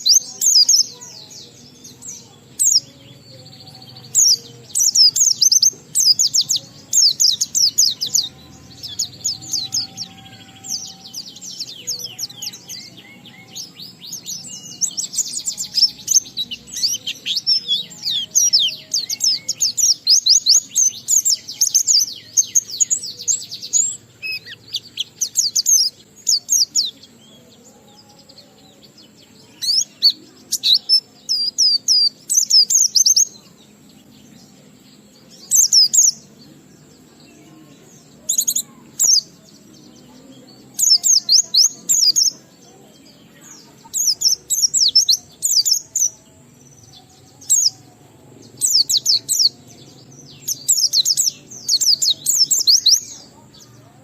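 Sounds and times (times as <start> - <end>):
bird high-pitched chirping: 0.0 - 54.0.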